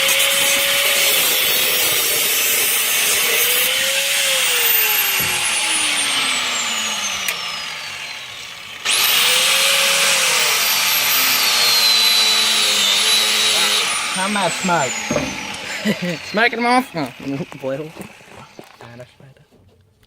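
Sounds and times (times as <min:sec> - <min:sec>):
angle grinder cutting steel pipe: 0:00.0 - 0:19.0.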